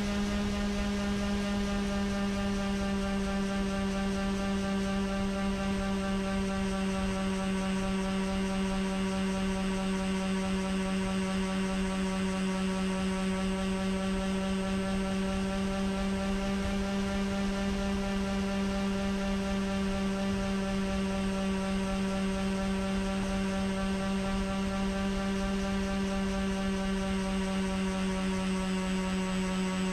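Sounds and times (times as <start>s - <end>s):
electric motors and propellers humming: 0.0s - 29.9s.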